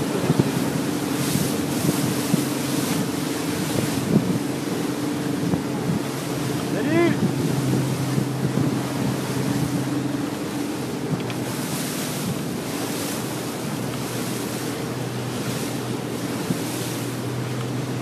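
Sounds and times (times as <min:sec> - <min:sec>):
motorboat engine running: 0:00.0 - 0:18.0
water rushing past hull: 0:00.0 - 0:18.0
wind buffeting microphone: 0:00.0 - 0:18.0.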